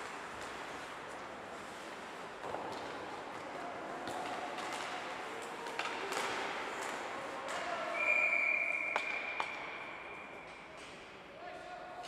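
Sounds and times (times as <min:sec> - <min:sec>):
hockey stick and puck clacks: 0:00.0 - 0:08.0, 0:08.8 - 0:11.2.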